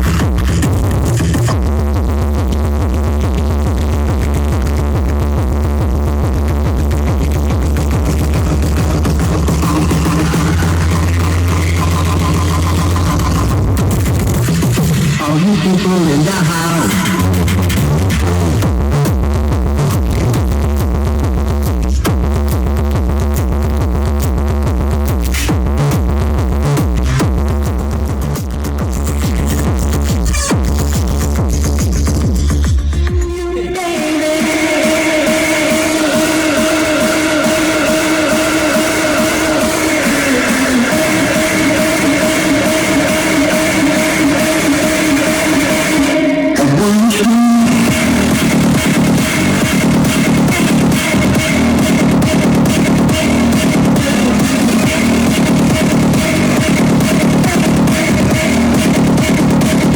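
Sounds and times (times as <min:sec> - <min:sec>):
deep bass: 0:00.0 - 0:59.9
loud electronic dance music: 0:00.0 - 0:59.9.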